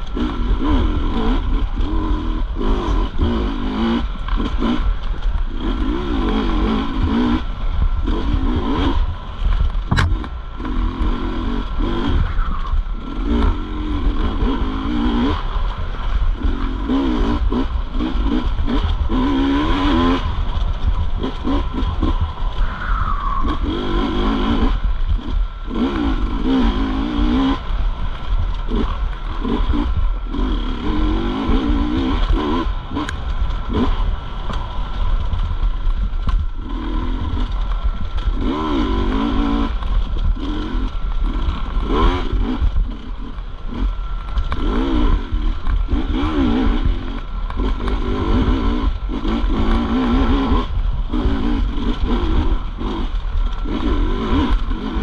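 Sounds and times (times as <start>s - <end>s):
dirt bike engine revving: 0.0s - 55.0s
heavy low rumble: 0.0s - 55.0s.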